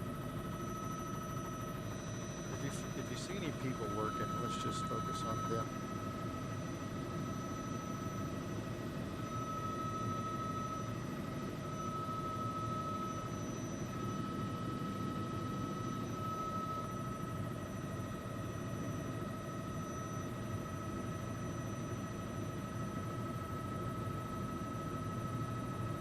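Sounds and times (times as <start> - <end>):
constant high whine: 0.0 - 26.0
helicopter rotor and turbine drone: 0.0 - 26.0.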